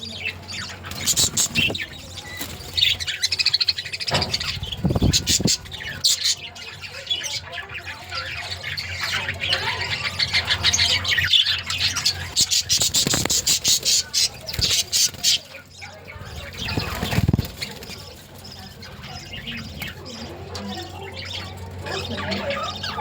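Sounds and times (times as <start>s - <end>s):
budgerigars chattering and chirping: 0.0s - 23.0s.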